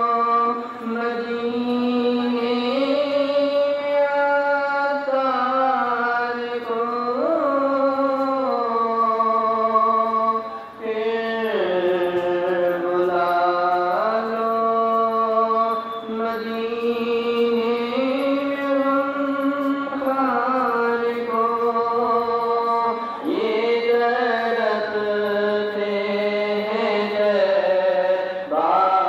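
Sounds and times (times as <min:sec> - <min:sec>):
person singing devotional song: 0:00.0 - 0:29.0.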